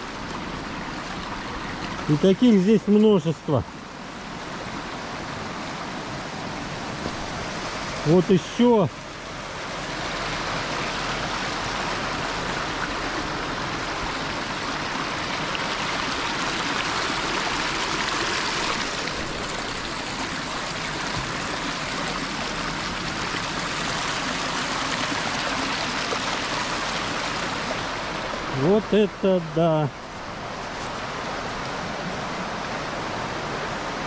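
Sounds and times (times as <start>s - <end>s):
water rushing over stones: 0.0s - 34.0s.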